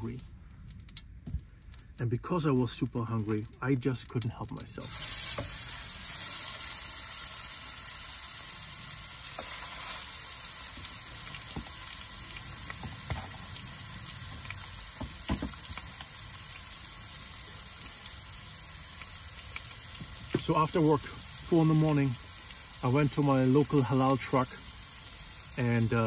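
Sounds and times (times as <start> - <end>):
meat sizzling in a pan: 4.8 - 26.0.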